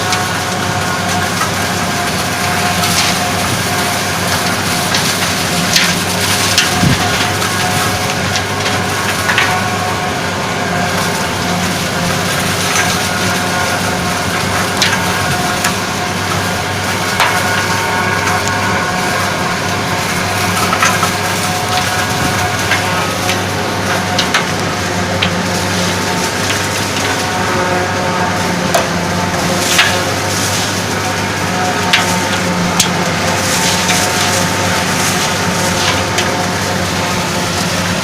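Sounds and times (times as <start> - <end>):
chopper crunching crop: 0.0 - 38.0
tractor engine humming: 0.0 - 38.0.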